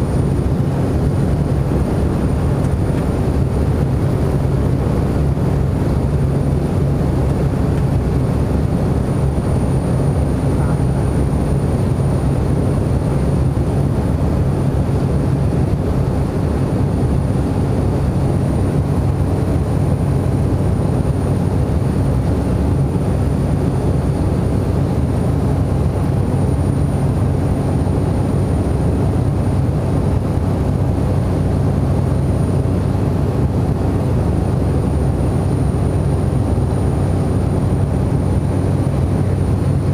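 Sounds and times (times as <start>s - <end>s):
turboprop engine droning in flight: 0.0s - 39.9s.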